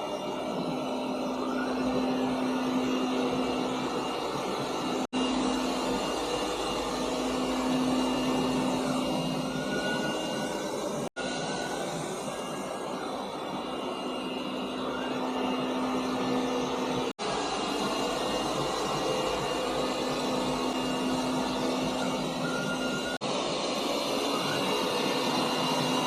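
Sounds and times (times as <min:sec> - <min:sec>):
robot vacuum whirring: 0:00.0 - 0:26.0.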